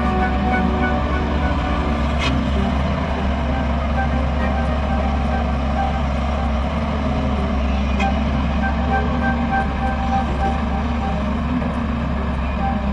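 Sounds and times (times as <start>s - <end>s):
diesel machinery engine drone: 0.0s - 12.9s
faint beeping tones: 0.0s - 12.9s.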